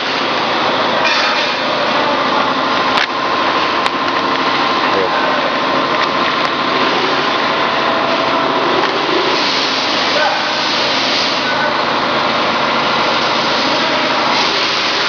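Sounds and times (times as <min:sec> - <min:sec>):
machine noise with whine: 0:00.0 - 0:15.0.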